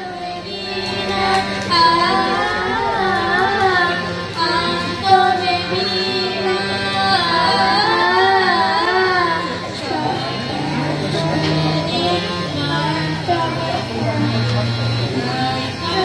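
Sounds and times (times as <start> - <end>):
children singing: 0.0 - 16.0.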